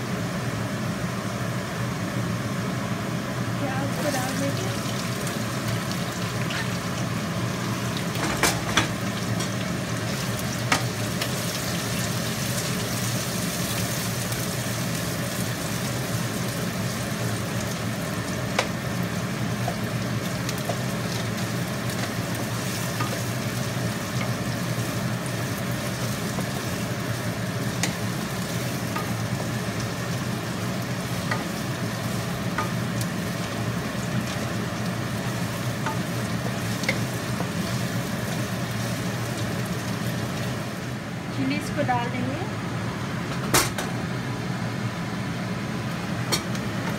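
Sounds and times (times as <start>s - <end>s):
onion sizzling in oil: 0.0s - 43.3s.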